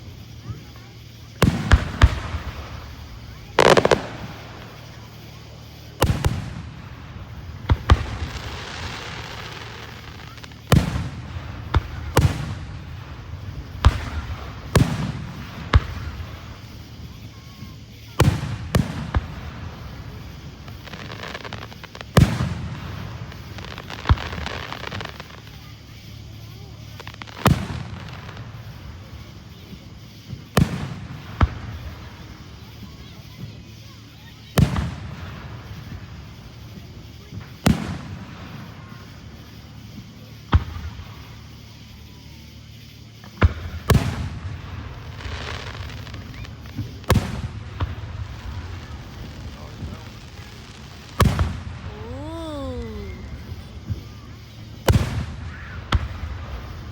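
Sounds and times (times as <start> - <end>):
fireworks banging: 0.0 - 33.9, 43.2 - 56.9
fireworks crackling: 0.0 - 56.9.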